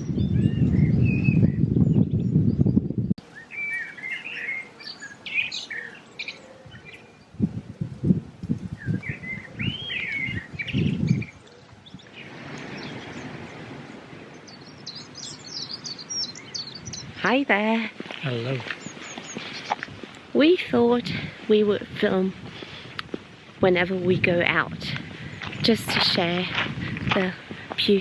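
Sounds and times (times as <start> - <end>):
songbirds chirping and singing: 0.0 - 23.0, 23.7 - 28.0.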